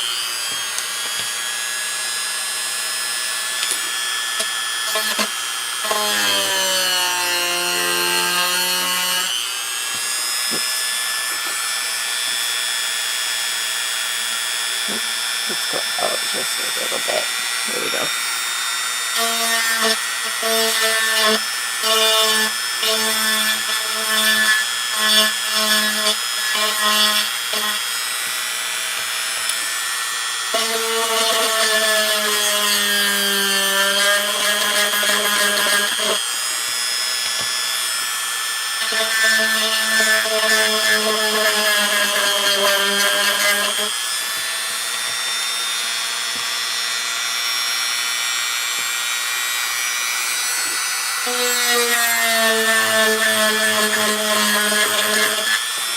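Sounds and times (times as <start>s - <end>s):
small electric drill boring paper: 0.0s - 55.9s.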